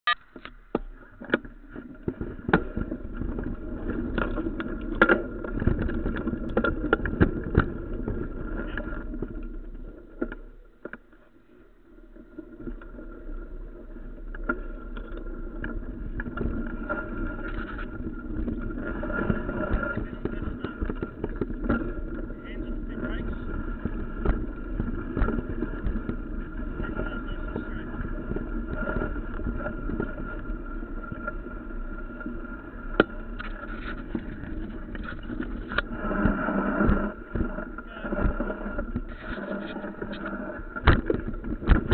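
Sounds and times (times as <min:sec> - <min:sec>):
tyre and trail rumble: 0:00.7 - 0:41.9
mountain bike rattling over bumps: 0:01.6 - 0:10.6, 0:12.2 - 0:41.9.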